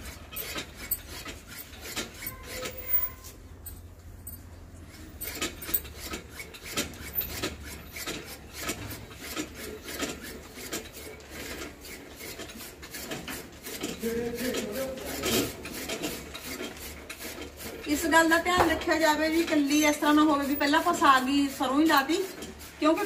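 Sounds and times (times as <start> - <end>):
hand-cranked chaff cutter chopping leaves: 0.0 - 3.4, 4.8 - 23.0.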